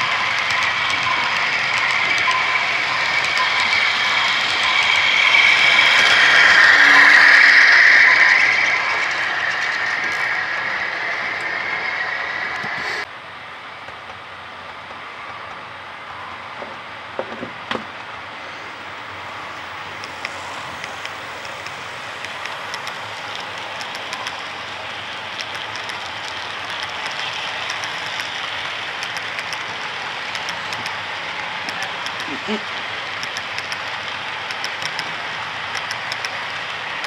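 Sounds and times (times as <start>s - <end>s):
wheels clicking over rail joints: 0.0s - 11.6s, 16.6s - 18.2s, 19.1s - 37.0s
model train rolling: 0.0s - 37.0s.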